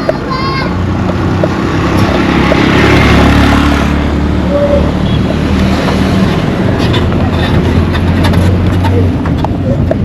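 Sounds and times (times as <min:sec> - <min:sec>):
road noise: 0:00.0 - 0:10.0
vehicle engine running: 0:00.8 - 0:10.0.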